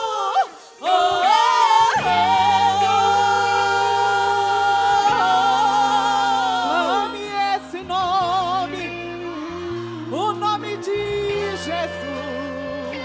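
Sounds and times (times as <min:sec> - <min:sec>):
vocal group singing gospel song: 0:00.0 - 0:13.0.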